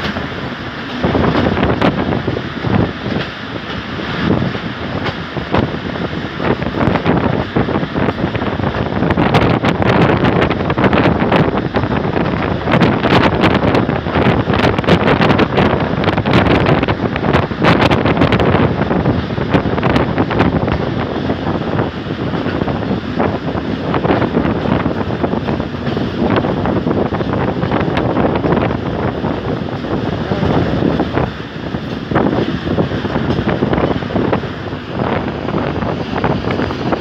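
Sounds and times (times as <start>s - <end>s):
train running rumble: 0.0s - 37.0s
wind buffeting microphone: 0.0s - 37.0s.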